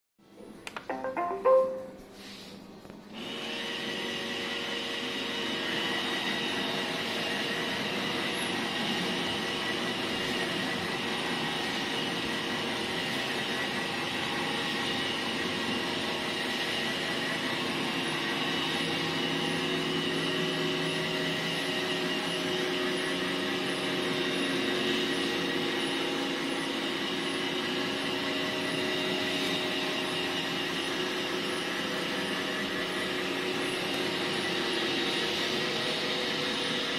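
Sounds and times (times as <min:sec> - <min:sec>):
robot vacuum whirring: 0:03.2 - 0:36.9.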